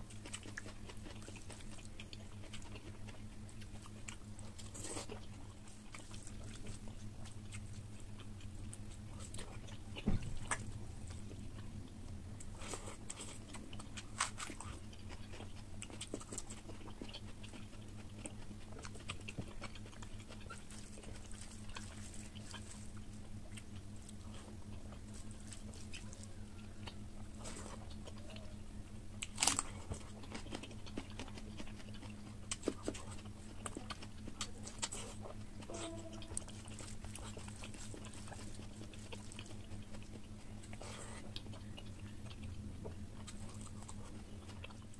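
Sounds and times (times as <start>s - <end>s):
chewing and biting: 0.0s - 44.9s
steady low hum: 0.0s - 44.9s.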